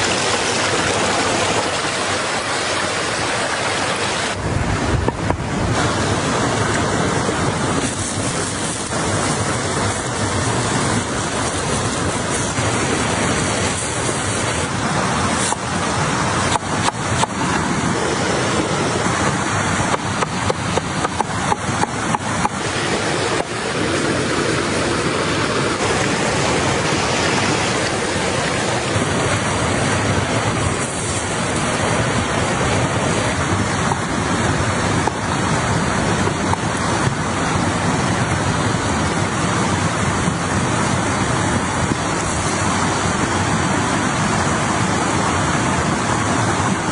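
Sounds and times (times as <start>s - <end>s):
stream rushing over stones: 0.0s - 46.9s.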